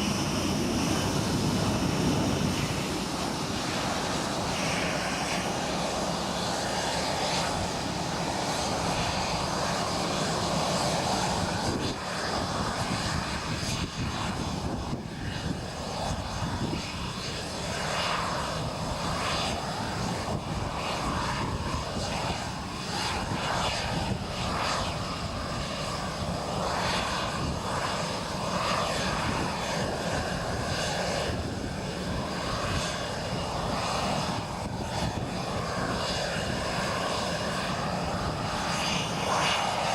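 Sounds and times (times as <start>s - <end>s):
jet engines running: 0.0s - 39.9s
wavering engine whine: 0.0s - 39.9s.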